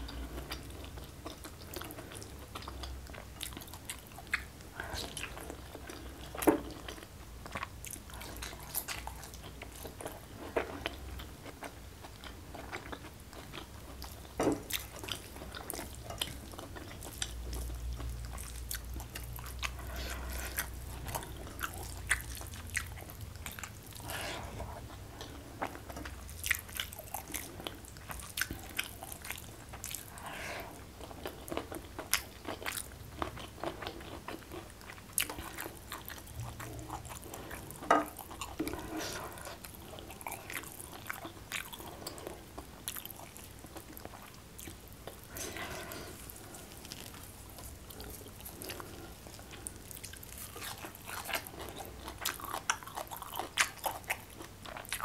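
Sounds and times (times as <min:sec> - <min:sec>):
chewing and crunching: 0:00.0 - 0:55.0.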